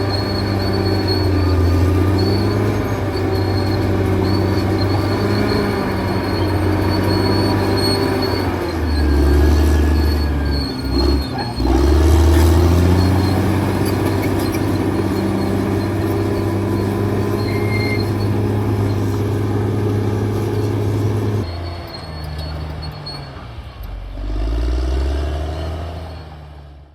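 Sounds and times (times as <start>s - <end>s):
steel tracks squealing: 0.0s - 26.8s
bulldozer diesel engine: 0.0s - 26.9s.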